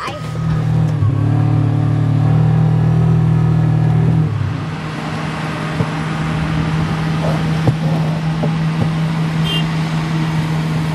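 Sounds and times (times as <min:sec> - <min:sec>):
heavy equipment engines droning: 0:00.0 - 0:10.9
vehicle engine running: 0:00.0 - 0:10.9.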